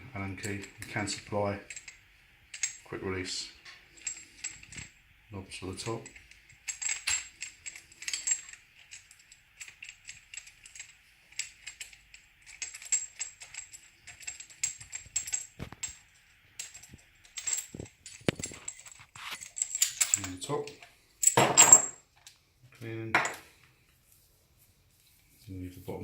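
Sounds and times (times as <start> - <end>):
metal parts being handled: 0.1 - 5.0, 5.6 - 22.4, 23.1 - 23.5.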